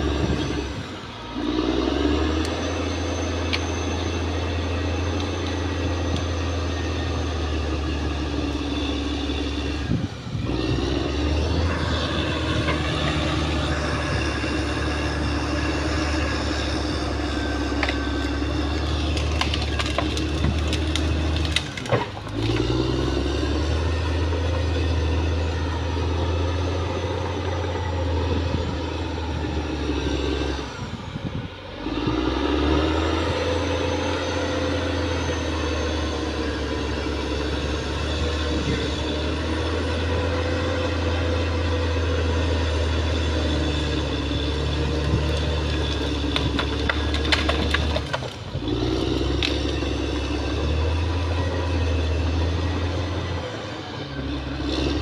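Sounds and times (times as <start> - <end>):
bulldozer diesel engine: 0.0 - 55.0
tracks clanking: 0.0 - 55.0.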